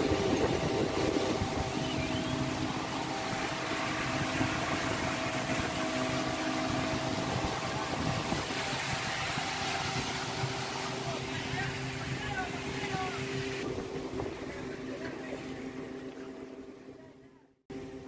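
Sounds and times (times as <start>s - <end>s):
ship engine humming: 0.0s - 18.0s.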